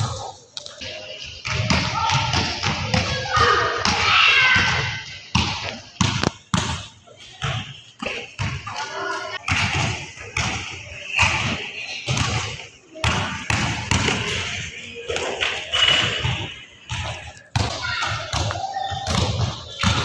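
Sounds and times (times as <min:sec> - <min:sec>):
people's voices: 0:00.0 - 0:20.0
basketballs bouncing on court: 0:01.4 - 0:20.0.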